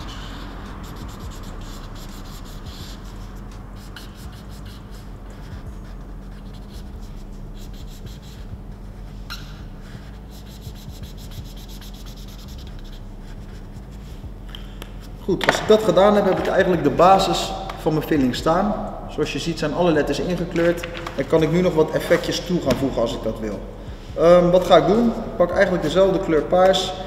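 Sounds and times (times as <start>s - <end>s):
marker pen scratching on paper: 0.0s - 18.4s, 20.0s - 23.6s
low hum: 0.0s - 27.0s.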